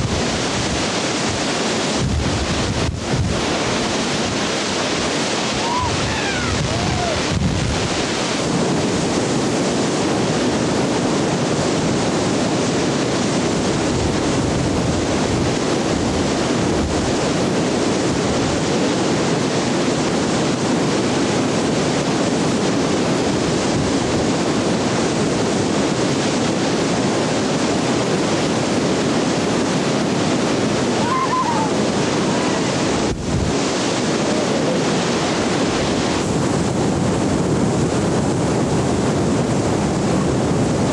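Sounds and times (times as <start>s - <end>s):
whitewater rapid rushing: 0.0s - 40.9s.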